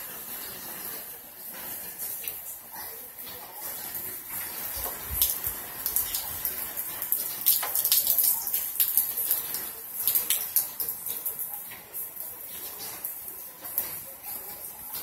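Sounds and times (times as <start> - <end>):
heavy rain splashing: 0.0 - 15.0.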